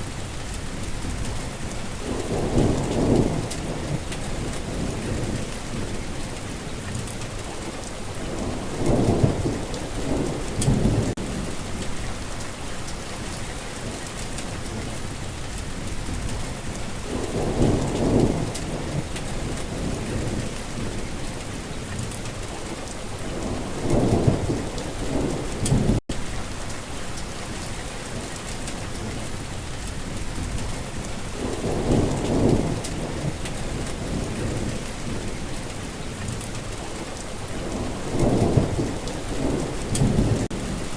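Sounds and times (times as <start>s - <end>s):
heavy rain hissing: 0.0s - 40.9s
low thunder rumbles: 0.3s - 12.5s, 13.9s - 26.7s, 28.1s - 40.9s.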